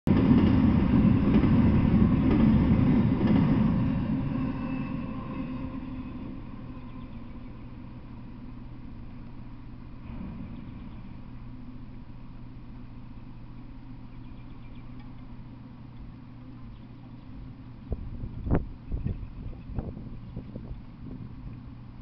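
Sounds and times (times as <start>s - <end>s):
freight train rumbling past: 0.1s - 22.0s.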